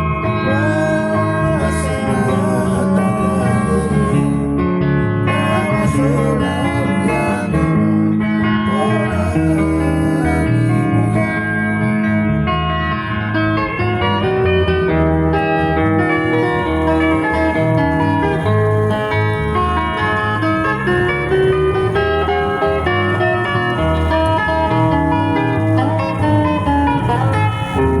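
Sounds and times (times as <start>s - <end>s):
bass line: 0.0s - 28.0s
plucked guitars: 0.0s - 28.0s.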